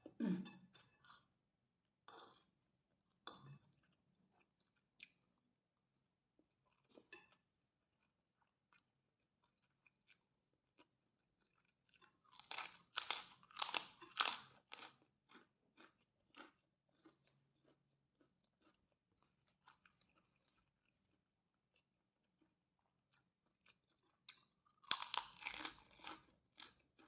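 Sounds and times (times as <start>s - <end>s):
person chewing food: 0.7s - 1.4s, 2.0s - 27.0s.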